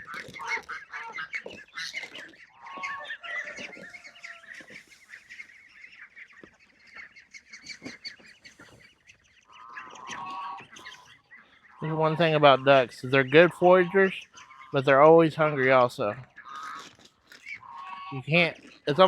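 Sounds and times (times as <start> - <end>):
ducks calling: 0.0 - 19.0
ducks honking: 0.0 - 19.0.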